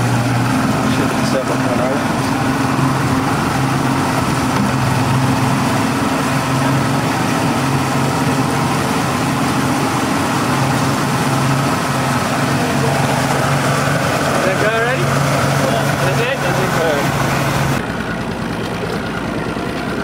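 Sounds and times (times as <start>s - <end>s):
churning water: 0.0s - 20.0s
outboard motor running: 0.0s - 20.0s.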